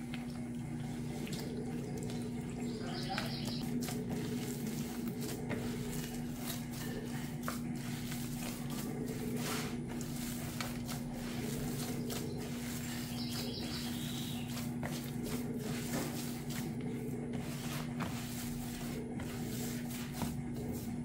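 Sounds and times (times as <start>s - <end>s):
hand kneading dough: 0.0s - 21.0s.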